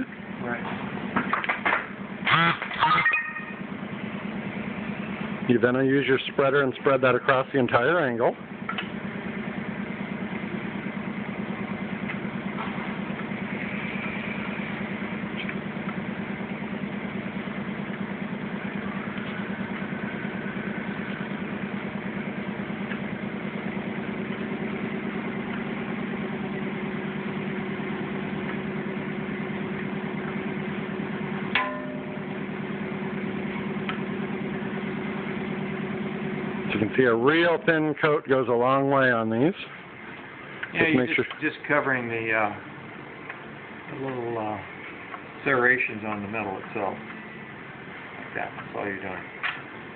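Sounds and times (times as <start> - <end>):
pulsing motor hum: 0.0 - 49.9.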